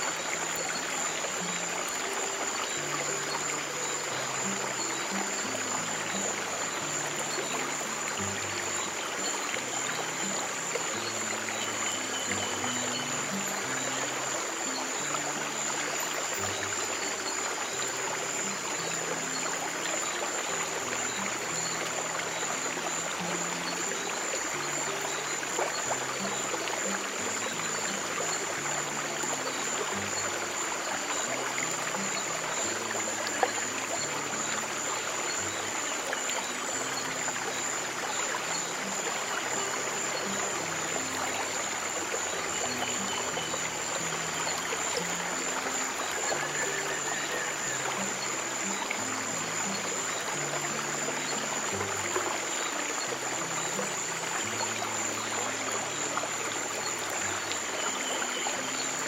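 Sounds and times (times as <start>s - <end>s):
flowing stream water: 0.0s - 59.0s.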